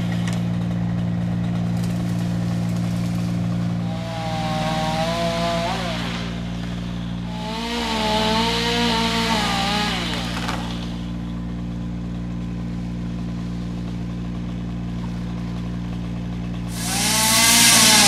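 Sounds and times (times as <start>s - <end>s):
truck engine running: 0.0s - 7.8s, 9.5s - 18.0s.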